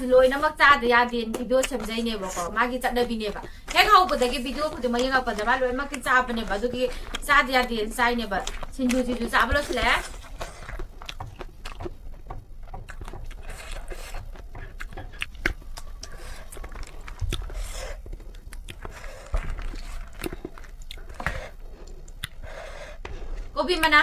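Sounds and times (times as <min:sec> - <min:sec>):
mouth clicks and smacks: 0:01.1 - 0:24.0
person chewing noodles: 0:01.2 - 0:23.9.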